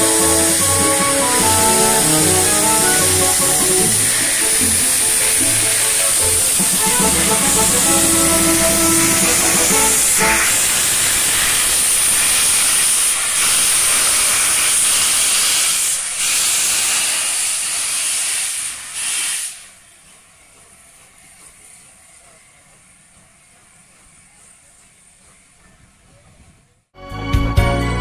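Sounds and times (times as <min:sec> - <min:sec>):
steam hissing from locomotive: 0:00.0 - 0:26.6.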